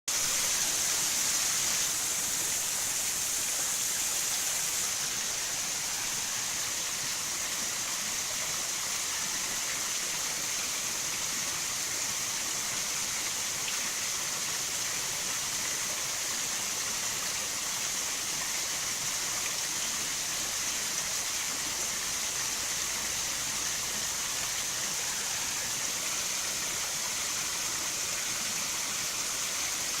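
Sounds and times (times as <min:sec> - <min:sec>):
waterfall splashing: 0:00.1 - 0:30.0.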